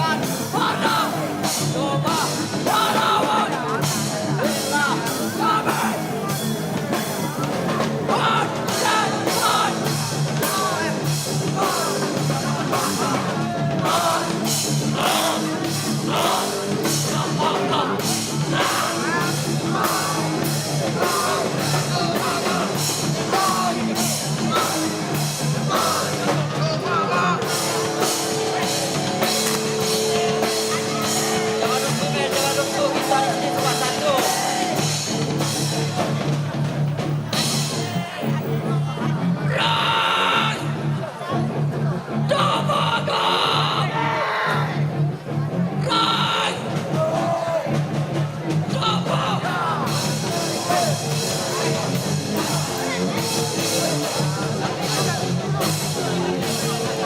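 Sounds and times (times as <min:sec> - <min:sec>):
punk band playing live: 0:00.0 - 0:57.0.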